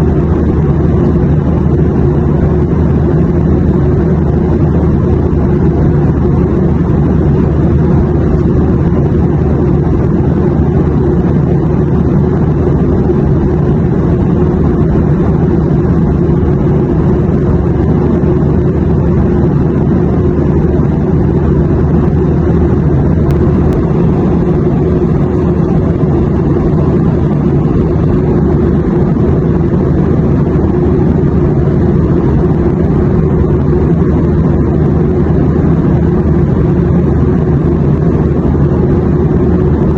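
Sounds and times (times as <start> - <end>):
airplane cabin rumble: 0.0 - 39.9
faint steady hums: 0.0 - 39.9.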